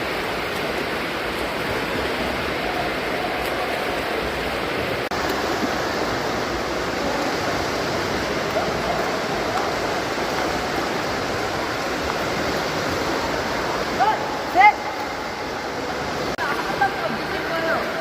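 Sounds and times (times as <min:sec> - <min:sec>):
water rushing and splashing in pool: 0:00.0 - 0:18.0.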